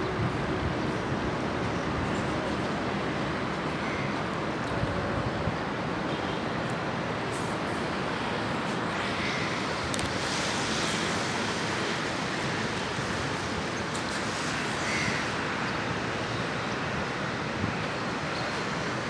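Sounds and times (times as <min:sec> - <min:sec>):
distant road traffic: 0:00.0 - 0:19.0.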